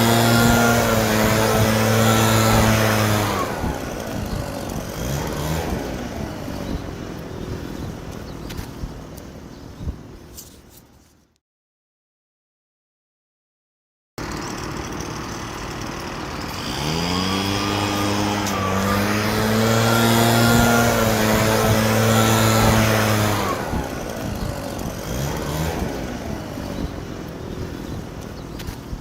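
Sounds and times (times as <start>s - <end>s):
motorcycle engine running: 0.0s - 10.3s, 14.2s - 29.0s.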